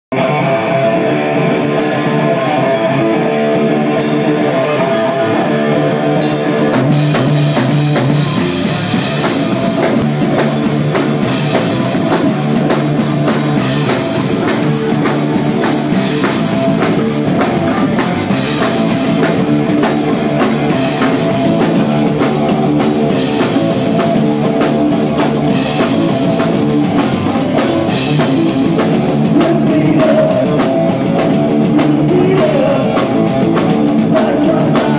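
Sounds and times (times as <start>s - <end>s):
guitar riff: 0.1s - 34.7s
rock band playing: 0.1s - 34.9s
drum kit with cymbals: 0.2s - 34.9s.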